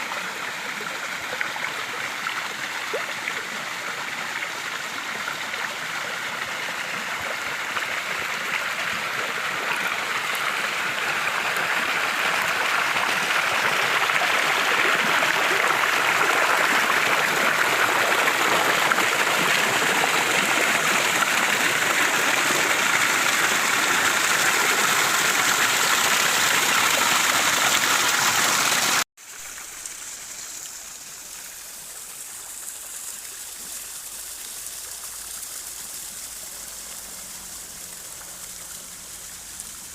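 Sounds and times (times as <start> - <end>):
rush of flowing water: 0.0 - 39.9
soft water flow: 0.0 - 39.9.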